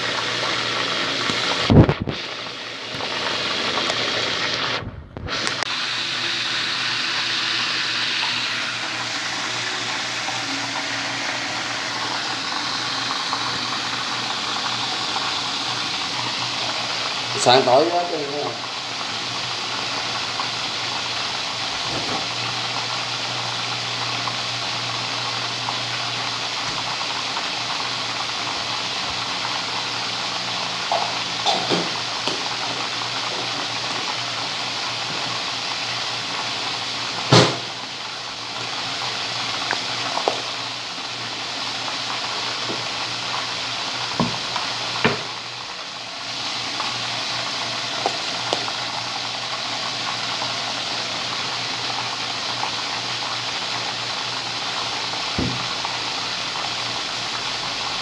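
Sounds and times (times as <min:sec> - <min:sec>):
chicken sizzling in hot oil: 0:00.0 - 0:58.0.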